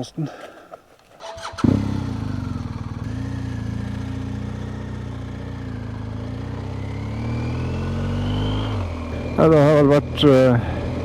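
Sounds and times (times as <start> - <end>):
motorcycle engine idling: 1.2 - 11.0.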